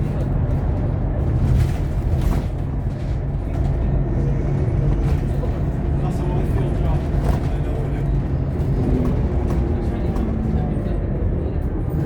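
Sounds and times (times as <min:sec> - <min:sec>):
bus body rattling: 0:00.0 - 0:12.0
bus engine droning: 0:00.0 - 0:12.0.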